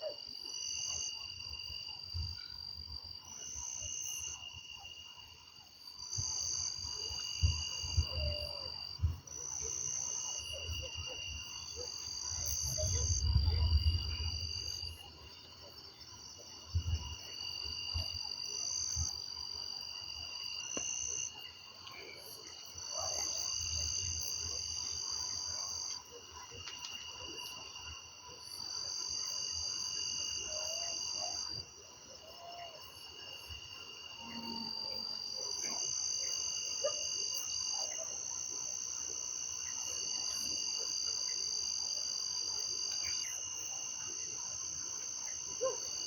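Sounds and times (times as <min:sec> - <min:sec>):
frogs and insects trilling: 0:00.0 - 0:46.0.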